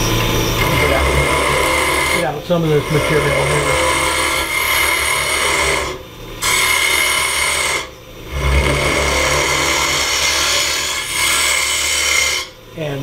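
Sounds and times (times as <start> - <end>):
lathe tool cutting wood: 0.0 - 13.0.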